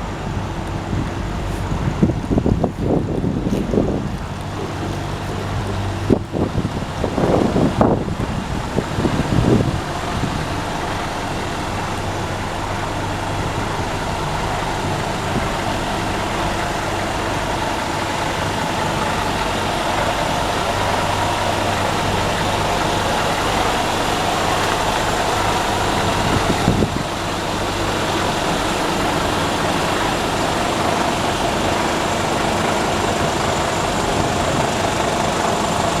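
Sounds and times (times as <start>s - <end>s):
truck diesel engine idling: 0.0s - 36.0s.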